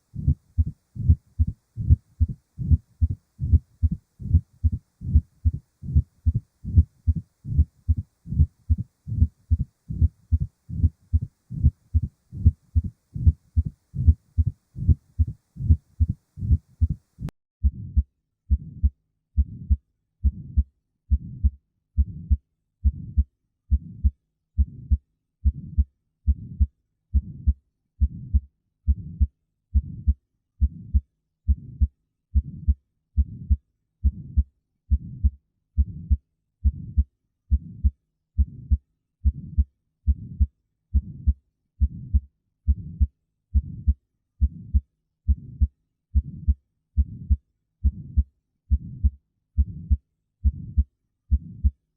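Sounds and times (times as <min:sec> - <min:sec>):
heartbeat through stethoscope: 0:00.1 - 0:51.8.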